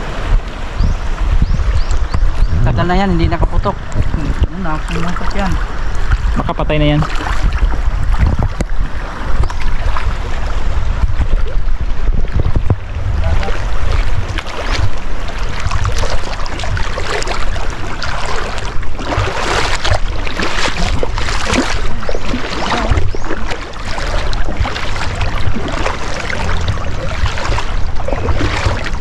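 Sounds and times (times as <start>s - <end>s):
wind rumbling on microphone: 0.0s - 29.0s
footsteps wading through water: 3.3s - 29.0s.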